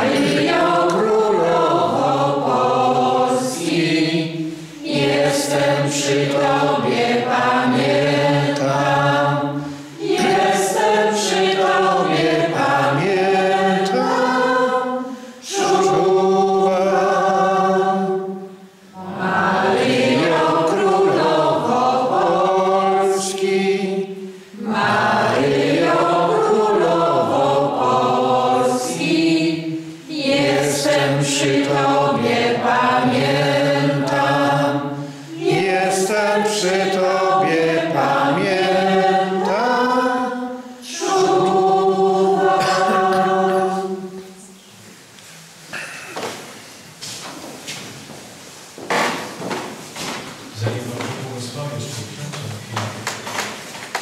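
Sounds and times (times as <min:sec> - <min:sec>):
group singing worship song: 0:00.0 - 0:52.5.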